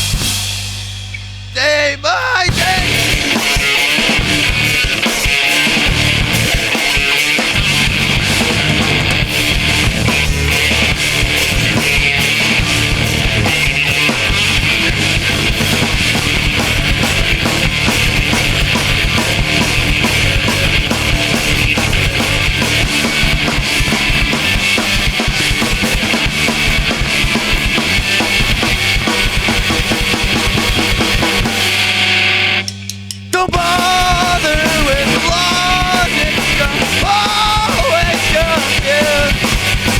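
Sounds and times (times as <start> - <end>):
drum kit: 0.0 - 39.9
punk rock band playing: 0.0 - 39.9.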